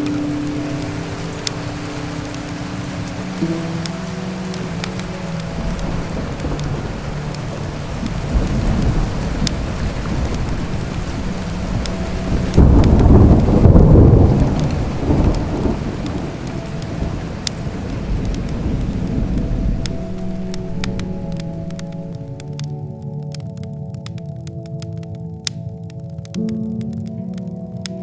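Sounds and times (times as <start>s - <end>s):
thunder rumbling: 0.0s - 23.9s
sharp crackles: 0.0s - 28.0s
steady rain: 0.0s - 28.0s.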